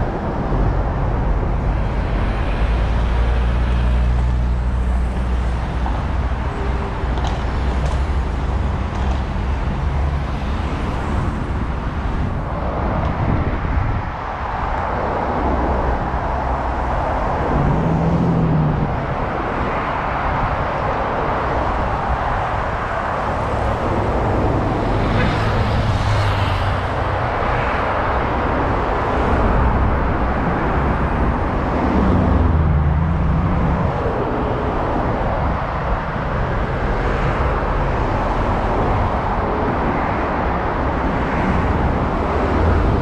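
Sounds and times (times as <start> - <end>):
traffic engines and tyre noise: 0.0 - 43.0.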